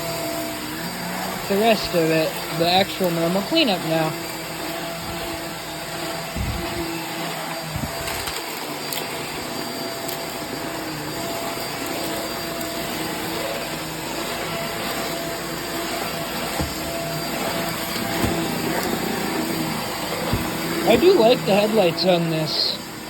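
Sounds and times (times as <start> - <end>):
vacuum cleaner humming: 0.0 - 23.0.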